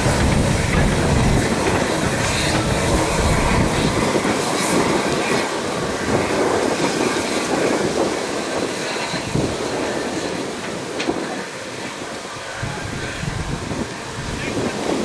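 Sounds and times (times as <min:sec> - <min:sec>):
train wheels clattering on rails: 0:00.0 - 0:12.6.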